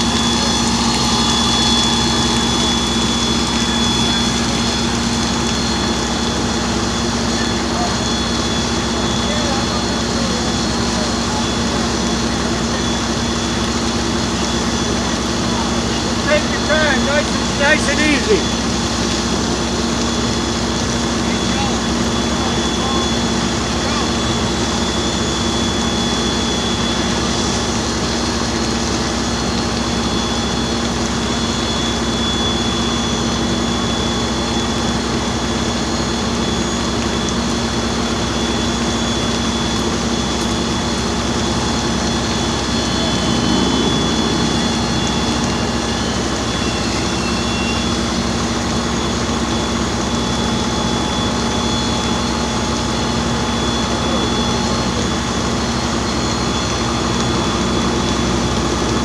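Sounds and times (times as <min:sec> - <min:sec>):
fire engine diesel drone: 0:00.0 - 0:59.0
pump high whine: 0:00.0 - 0:59.0.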